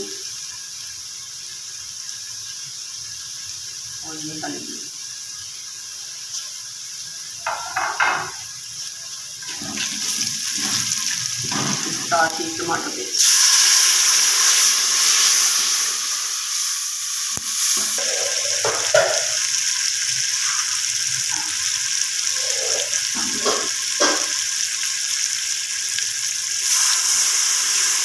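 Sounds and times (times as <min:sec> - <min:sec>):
masala sizzling in hot oil: 0:00.0 - 0:28.0.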